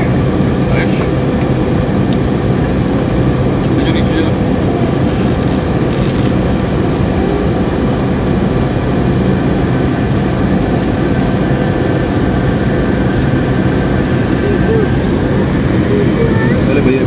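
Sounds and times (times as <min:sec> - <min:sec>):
jet engines droning: 0:00.0 - 0:17.0.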